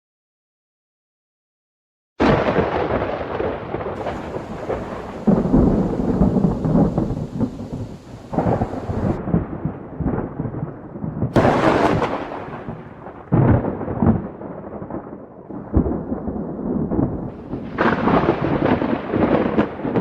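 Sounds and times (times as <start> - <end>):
sharp thunder clap: 2.2 - 10.7, 11.3 - 20.0
rain: 2.2 - 20.0
thunder rumbling: 2.2 - 20.0.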